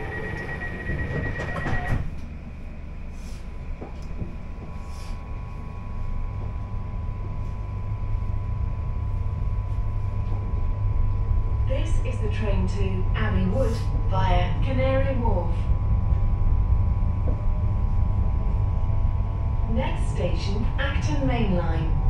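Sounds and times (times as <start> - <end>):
high steady train whine: 0.0 - 22.0
low hum with faint tone: 2.0 - 22.0.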